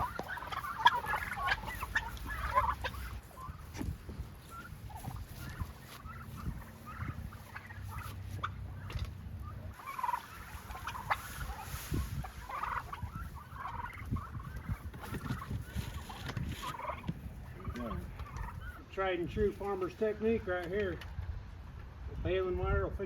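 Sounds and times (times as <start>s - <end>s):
turkeys calling: 0.0s - 21.9s.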